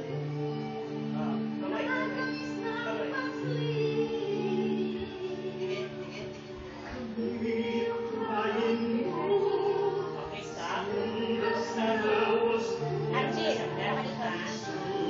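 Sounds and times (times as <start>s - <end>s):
music with singing: 0.0s - 15.0s.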